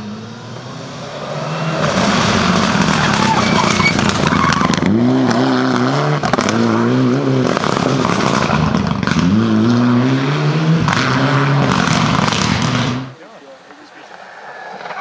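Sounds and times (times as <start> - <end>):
rally car engine accelerating: 0.0 - 13.2.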